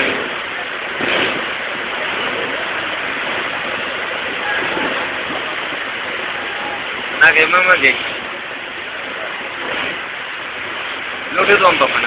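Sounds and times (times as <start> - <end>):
water rushing through dam gates: 0.0 - 12.0.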